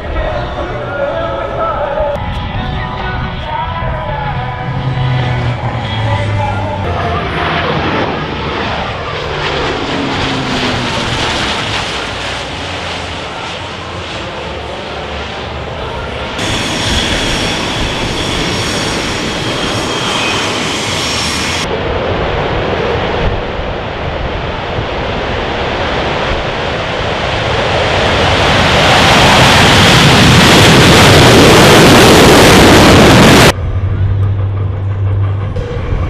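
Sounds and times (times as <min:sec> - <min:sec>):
aircraft engine whine: 0:00.0 - 0:36.0
aircraft passing with roar: 0:00.0 - 0:36.0.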